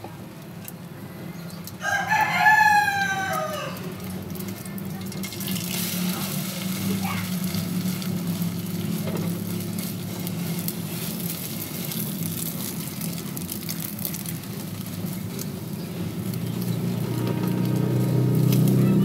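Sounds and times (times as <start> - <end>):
bread sizzling in oil: 1.8 - 19.0.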